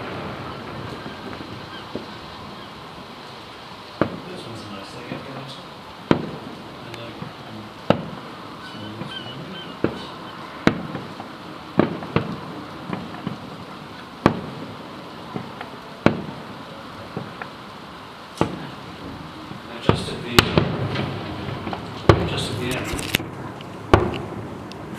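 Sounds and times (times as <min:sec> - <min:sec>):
small firework pops: 0:00.0 - 0:03.4, 0:04.0 - 0:24.9
fireworks exploding: 0:00.0 - 0:24.9.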